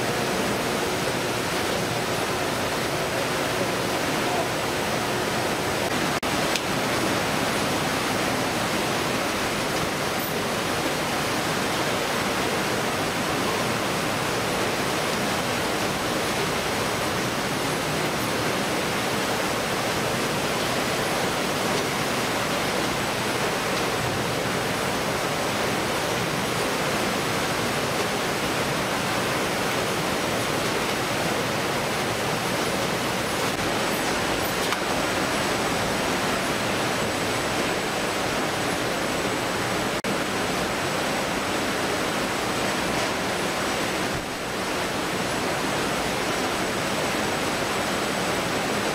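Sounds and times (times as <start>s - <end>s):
water flowing: 0.0s - 48.9s.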